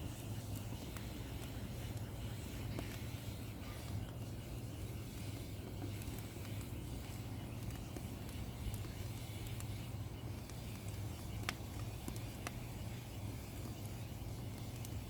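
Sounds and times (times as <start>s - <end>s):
kindling fire crackling: 0.0s - 15.0s
low background hum: 0.0s - 15.0s.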